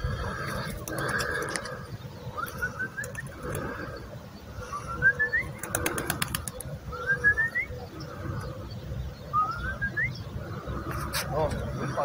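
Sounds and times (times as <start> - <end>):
bird singing: 0.0 - 12.0.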